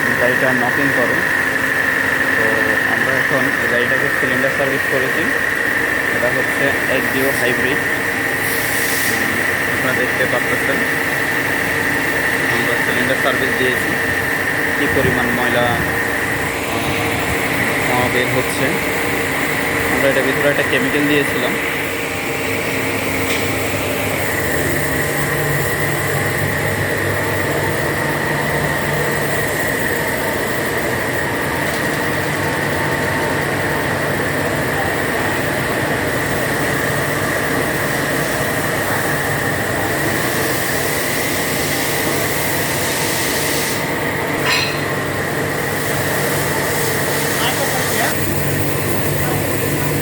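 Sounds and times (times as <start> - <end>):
steady high whine: 0.0 - 50.0.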